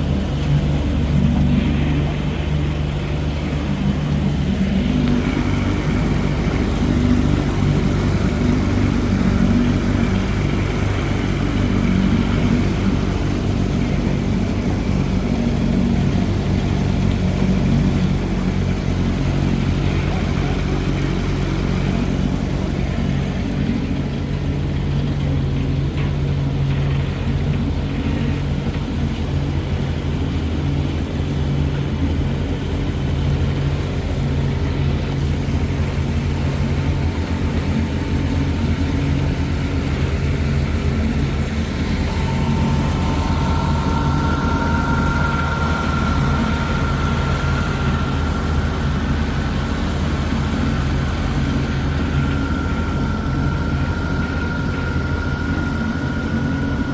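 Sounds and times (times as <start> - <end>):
faint high whine: 0.0 - 56.9
outboard motor running: 0.0 - 56.9.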